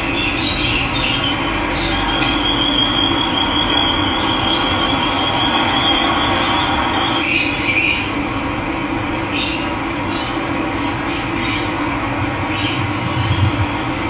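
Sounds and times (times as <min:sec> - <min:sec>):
birds chirping: 0:00.0 - 0:08.3, 0:09.1 - 0:14.0.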